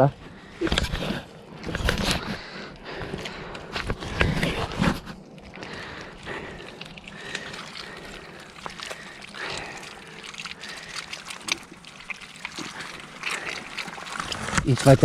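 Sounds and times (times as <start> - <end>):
shallow water sloshing: 0.0 - 15.0.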